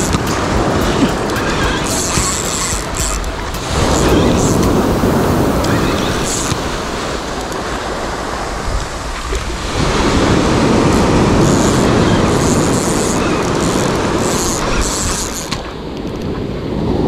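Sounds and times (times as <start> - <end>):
fishing reel cranking: 0.0 - 7.7, 9.3 - 16.3
breaking surf: 0.0 - 17.0
wind on microphone: 0.0 - 17.0.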